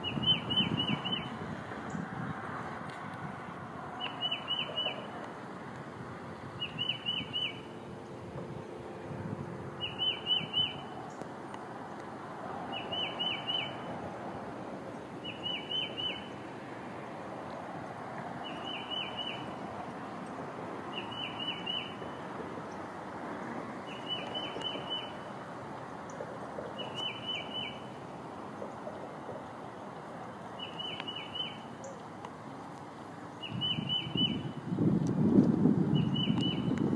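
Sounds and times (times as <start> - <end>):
steady background noise: 0.0 - 36.9.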